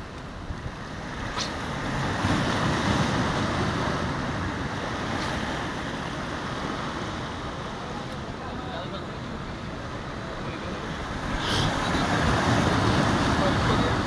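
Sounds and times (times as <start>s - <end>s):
waves washing against rocks: 0.0s - 8.4s, 10.8s - 14.0s.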